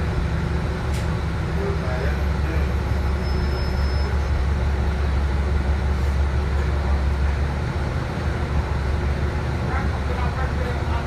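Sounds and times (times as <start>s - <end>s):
bus engine low rumble: 0.0s - 11.0s.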